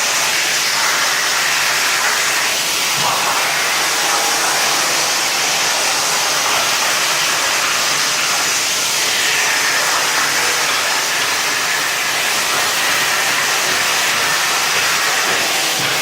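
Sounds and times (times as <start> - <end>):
plasma cutter torch hissing: 0.0 - 16.0.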